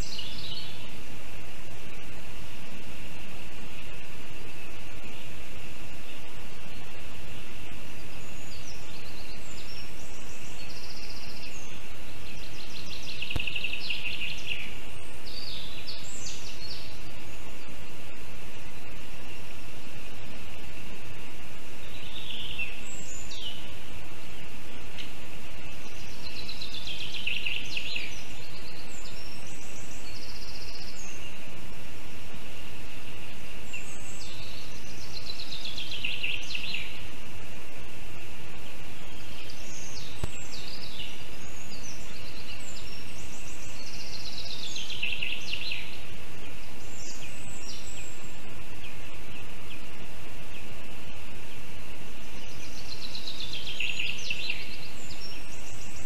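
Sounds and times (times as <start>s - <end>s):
steady high-pitched hiss: 0.0s - 56.0s.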